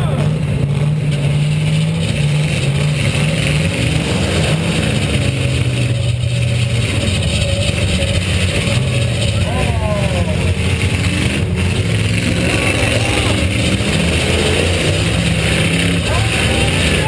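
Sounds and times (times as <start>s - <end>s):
car engine under throttle: 0.0s - 17.0s.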